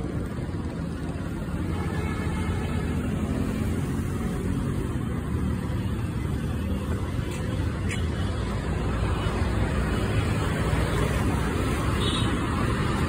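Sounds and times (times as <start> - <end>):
motorbikes and cars passing: 0.0 - 13.0.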